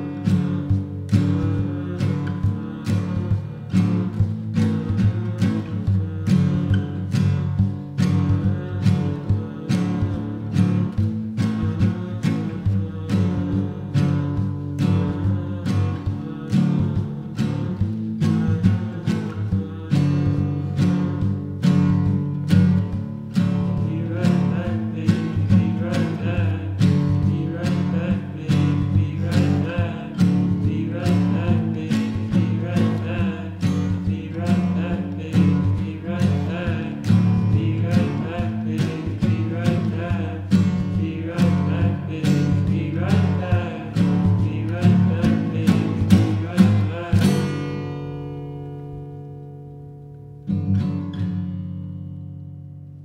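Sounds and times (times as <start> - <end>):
strummed acoustic guitar: 0.0 - 53.0.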